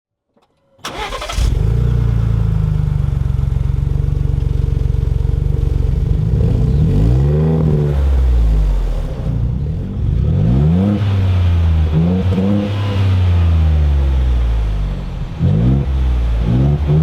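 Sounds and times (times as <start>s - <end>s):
car engine starting and idling: 0.8s - 17.0s
engine revving: 0.8s - 17.0s.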